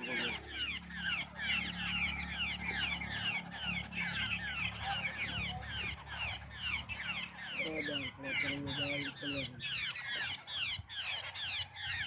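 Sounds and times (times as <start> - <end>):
babblers chattering: 0.0 - 12.0.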